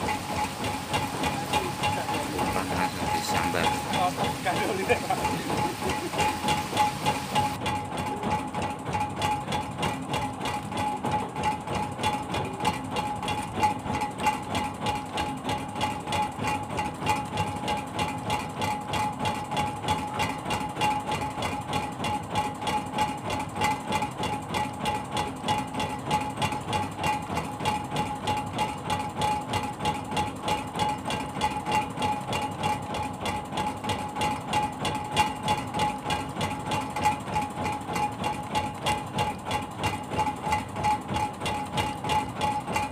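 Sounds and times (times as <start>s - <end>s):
boat engine idling with thumping: 0.0s - 42.9s.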